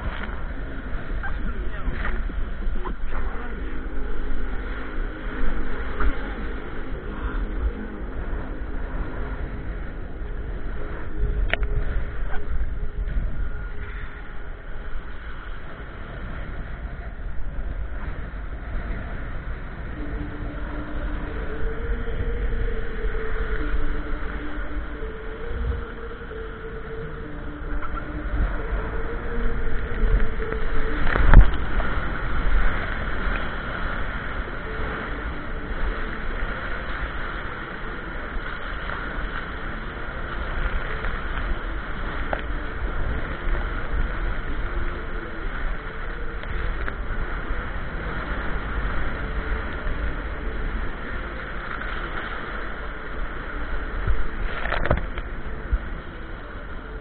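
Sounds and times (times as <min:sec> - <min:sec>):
continuous water wash: 0:00.0 - 0:57.0
steady two-note hum: 0:00.0 - 0:57.0
wind buffeting microphone: 0:00.0 - 0:57.0.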